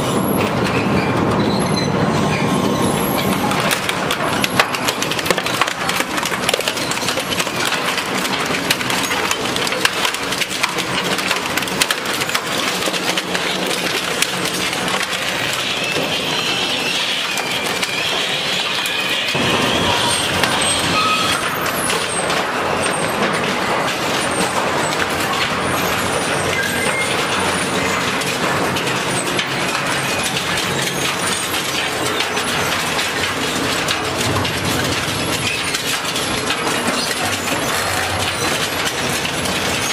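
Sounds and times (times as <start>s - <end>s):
metal shredder crunching scrap: 0.0s - 39.9s.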